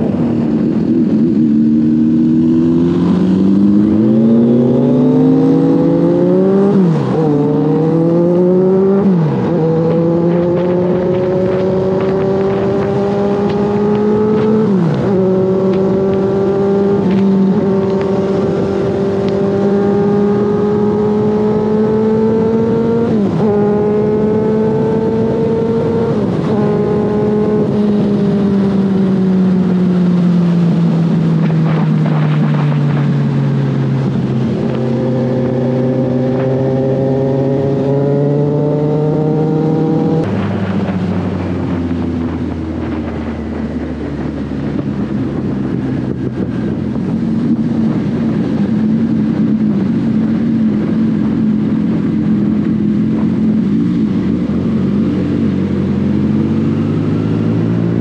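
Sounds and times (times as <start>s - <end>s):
motorcycle engine at speed: 0.0s - 58.0s
wind rushing: 0.0s - 58.0s.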